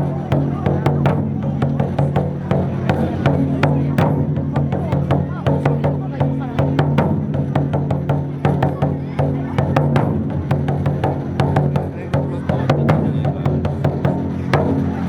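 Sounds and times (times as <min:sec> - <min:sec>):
taiko drums ensemble: 0:00.0 - 0:15.0.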